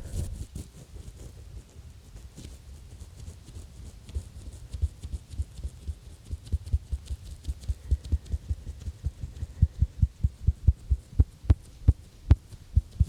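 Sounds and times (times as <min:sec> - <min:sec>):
gloves rubbing on microphone: 0:00.0 - 0:13.0.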